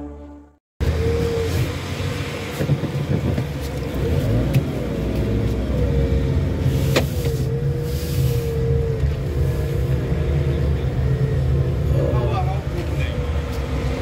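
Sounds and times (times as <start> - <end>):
car engine and road rumble: 0.8 - 14.0.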